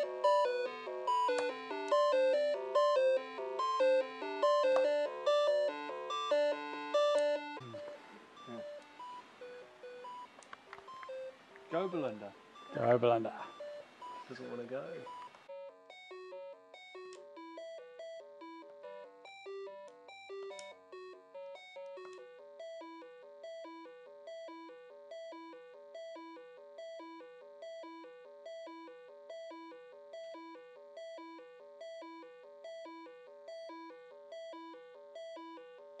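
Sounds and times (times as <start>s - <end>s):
background music with high notes: 0.0s - 36.0s.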